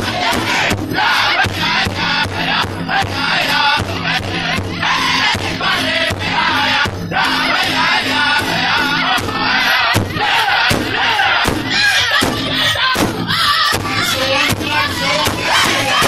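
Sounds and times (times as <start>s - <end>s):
large drum beating: 0.0s - 16.0s
men singing in unison: 0.0s - 16.0s.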